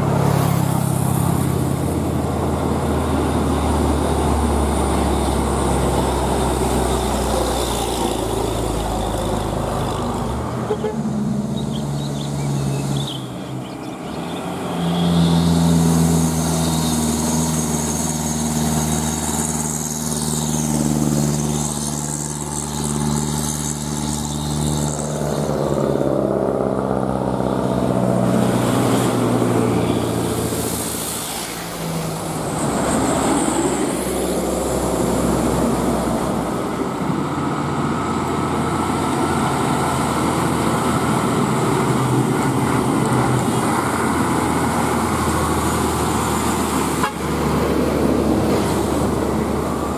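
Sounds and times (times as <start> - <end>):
truck engine labouring: 0.0 - 49.9.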